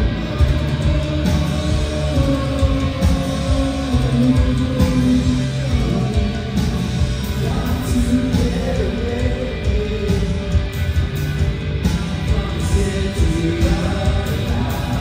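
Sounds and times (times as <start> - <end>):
bass guitar: 0.0 - 15.0
drums: 0.0 - 15.0
electric guitar: 0.0 - 15.0.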